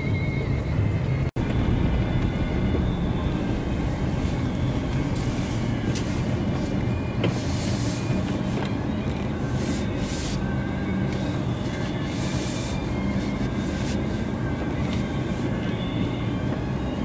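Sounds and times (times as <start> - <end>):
vehicle engine and tyres rumbling: 0.0 - 17.0.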